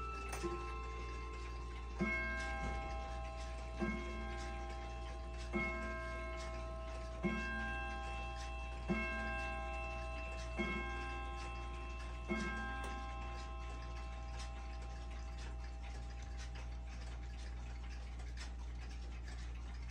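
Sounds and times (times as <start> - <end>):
wall clock striking: 0.0 - 18.8
clock ticking: 0.0 - 19.9.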